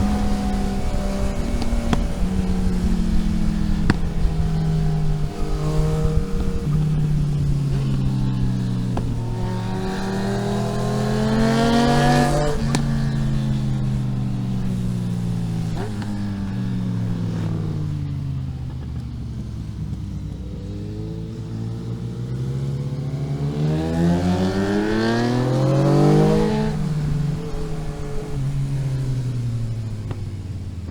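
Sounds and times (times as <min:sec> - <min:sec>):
vehicle engine accelerating: 0:00.0 - 0:30.9.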